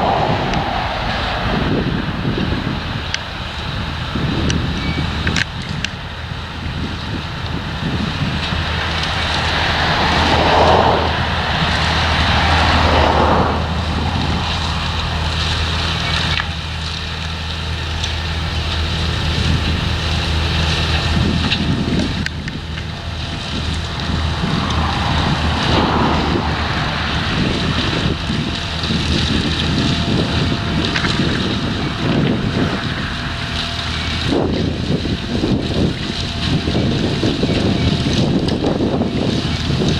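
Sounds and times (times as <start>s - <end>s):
heavy machinery engine running: 0.0s - 39.9s
wind gusting on microphone: 0.0s - 39.9s.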